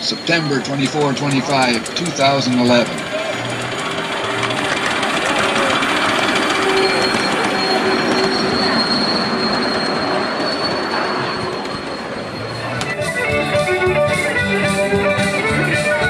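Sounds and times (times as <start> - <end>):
miniature train running: 0.0 - 16.0
wheels squealing on rail: 0.0 - 16.0.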